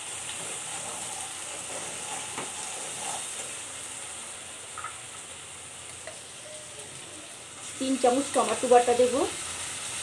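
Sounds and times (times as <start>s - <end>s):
spice paste sizzling in oil: 0.0s - 10.0s.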